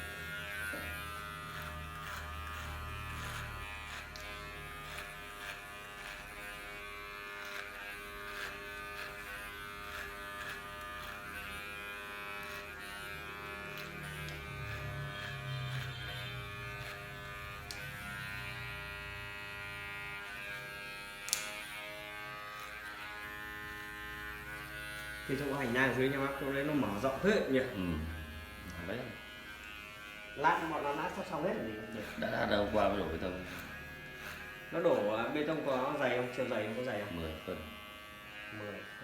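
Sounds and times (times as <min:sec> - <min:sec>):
electric tool motor whining: 0:00.0 - 0:39.0.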